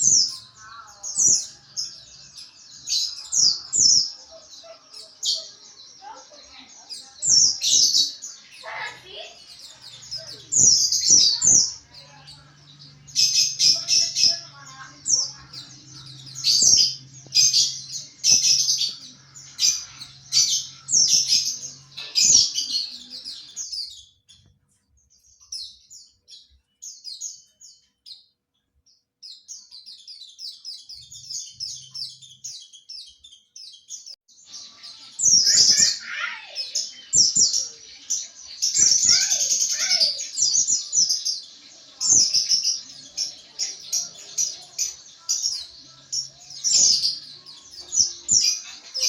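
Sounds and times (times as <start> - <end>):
bird twittering in rapid high chirps: 0.0 - 49.0.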